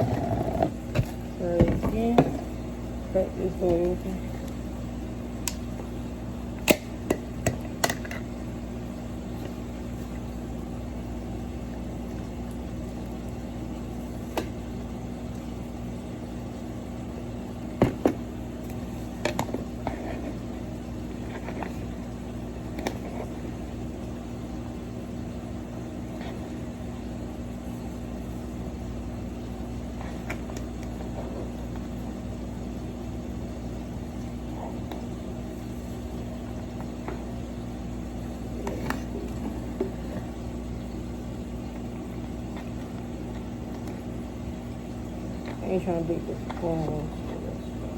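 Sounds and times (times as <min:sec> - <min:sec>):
appliance or fan humming: 0:00.0 - 0:47.9.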